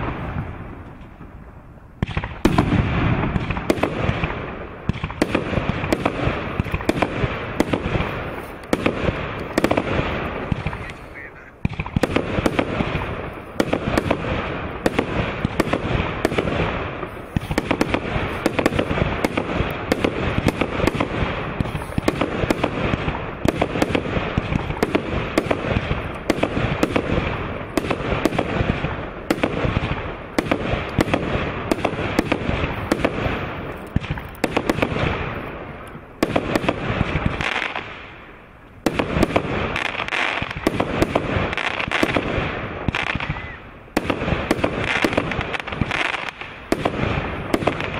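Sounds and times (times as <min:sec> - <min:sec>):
fireworks shots and bursts: 0:00.0 - 0:47.9.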